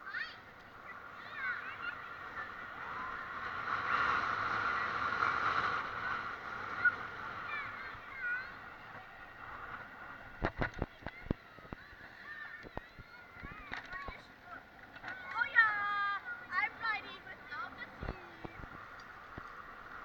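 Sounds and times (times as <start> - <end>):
bicycle riding rushing noise: 0.0 - 20.0.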